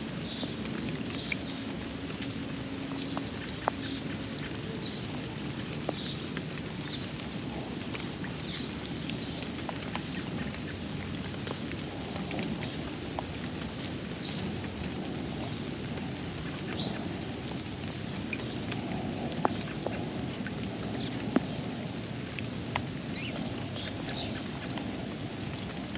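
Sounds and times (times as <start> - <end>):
rain falling on a pond: 0.0 - 25.9
raindrops ticking sharply: 0.0 - 25.9.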